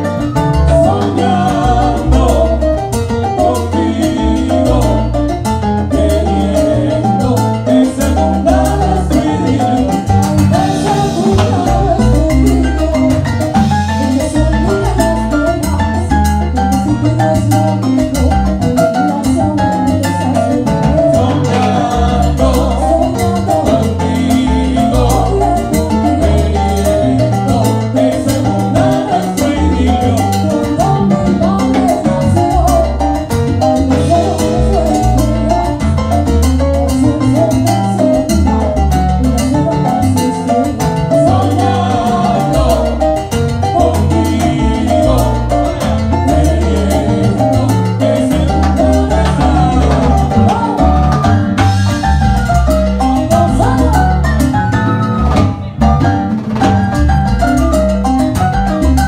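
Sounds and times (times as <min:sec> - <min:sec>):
salsa band playing: 0:00.0 - 0:59.0.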